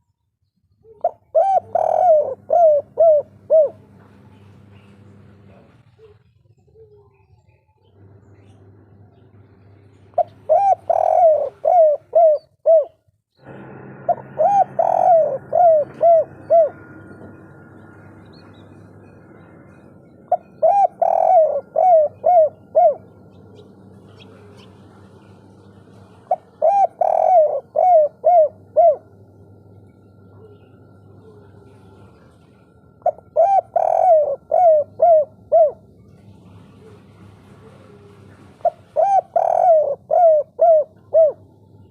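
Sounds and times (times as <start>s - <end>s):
faint steady hum: 0.0s - 41.9s
dove cooing: 0.8s - 8.8s, 10.0s - 41.9s.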